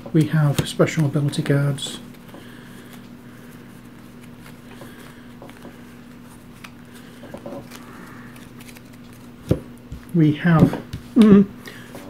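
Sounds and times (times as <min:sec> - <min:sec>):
steady low hum: 0:00.0 - 0:12.0
cards tapping and sliding: 0:00.2 - 0:03.1, 0:03.9 - 0:11.9.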